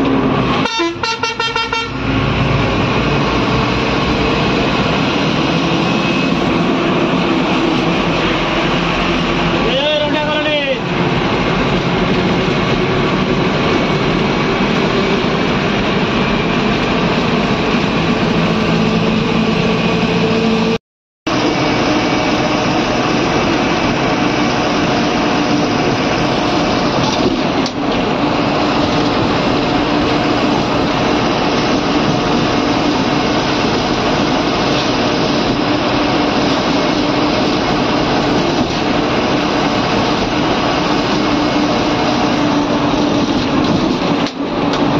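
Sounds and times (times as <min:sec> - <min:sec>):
bus engine running: 0:00.0 - 0:44.9
road noise: 0:00.0 - 0:44.9.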